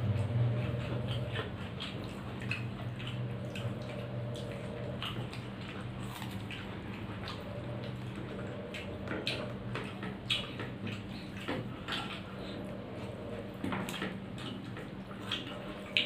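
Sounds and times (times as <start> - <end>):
steady low hum: 0.0 - 16.0
wet chewing and smacking: 0.0 - 16.0.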